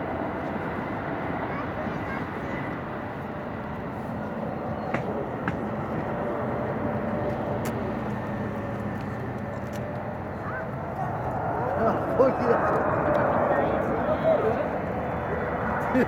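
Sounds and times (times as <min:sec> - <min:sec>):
distant jet engine: 0:00.0 - 0:16.0.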